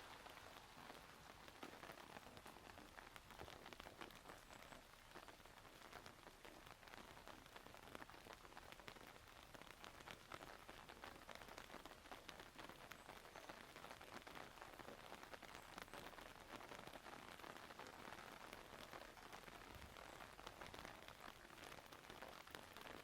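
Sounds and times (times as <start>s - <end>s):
faint rainfall: 0.0s - 23.0s
raindrops ticking: 0.0s - 23.0s.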